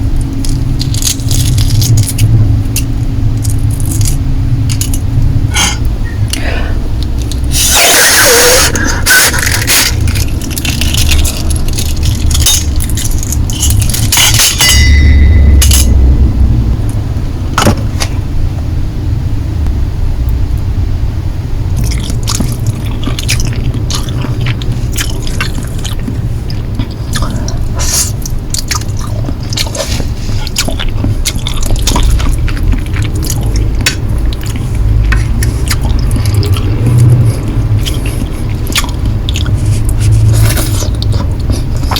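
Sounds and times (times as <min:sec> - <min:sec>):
wet noodle sounds: 0:00.0 - 0:15.1, 0:21.7 - 0:41.9
steady low rumble: 0:00.0 - 0:41.9.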